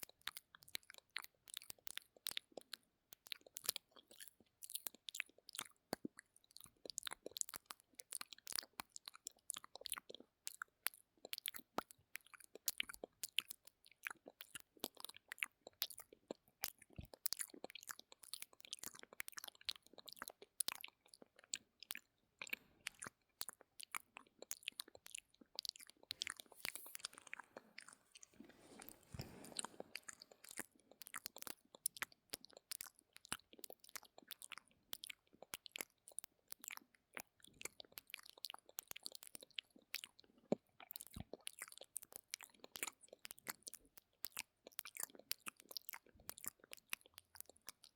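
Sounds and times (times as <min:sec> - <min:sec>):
wet mouth clicks and smacks: 0:00.0 - 0:47.9.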